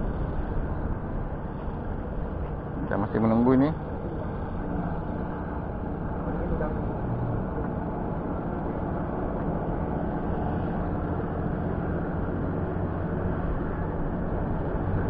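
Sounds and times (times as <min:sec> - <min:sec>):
small boat engine humming: 0:00.0 - 0:15.0.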